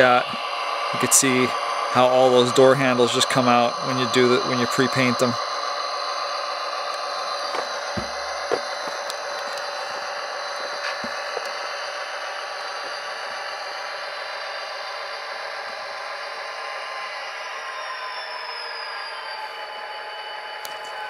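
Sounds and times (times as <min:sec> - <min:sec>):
thin diesel engine sound from speaker: 0:00.0 - 0:21.0.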